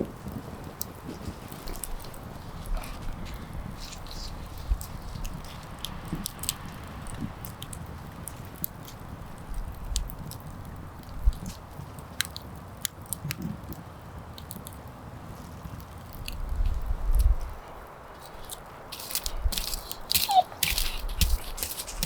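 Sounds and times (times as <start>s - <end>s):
wood snapping and crackling: 0.0s - 14.9s, 15.8s - 22.0s.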